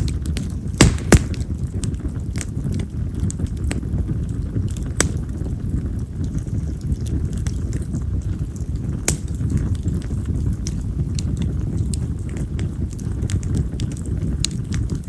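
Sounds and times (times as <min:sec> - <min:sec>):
campfire flame rushing: 0:00.0 - 0:15.0
firewood crackling and popping: 0:00.0 - 0:15.0.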